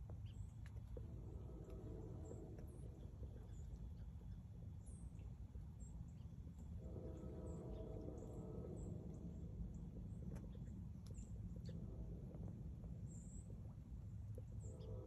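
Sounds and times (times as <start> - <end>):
faint hum with overtones: 0.0 - 15.0
low rumble: 0.0 - 15.0.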